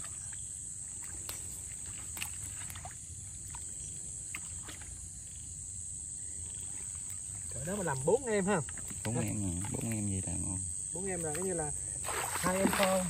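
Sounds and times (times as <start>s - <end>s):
small splashes in muddy water: 0.0s - 5.6s, 6.2s - 13.0s
night insects chorus: 0.0s - 13.0s.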